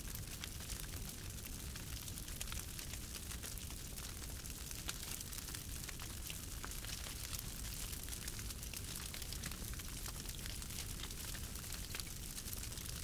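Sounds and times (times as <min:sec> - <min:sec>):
low steady fire rumble: 0:00.0 - 0:13.0
wood fire crackling: 0:00.0 - 0:13.0.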